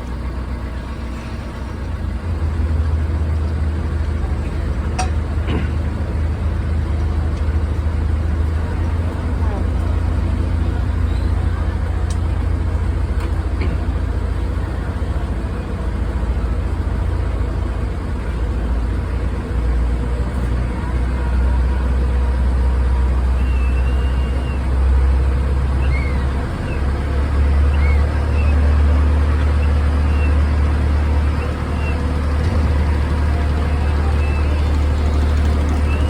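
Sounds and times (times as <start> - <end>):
boat engine rumbling: 0.0 - 36.0.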